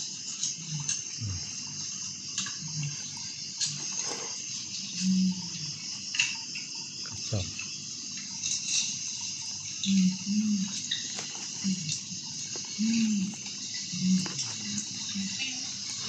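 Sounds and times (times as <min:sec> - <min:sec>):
insect chirring: 0:00.0 - 0:16.0.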